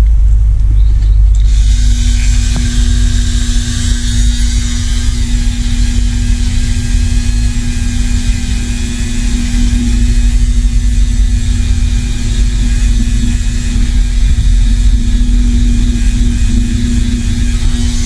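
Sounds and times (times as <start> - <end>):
electric power tool motor running: 0.9 - 18.0.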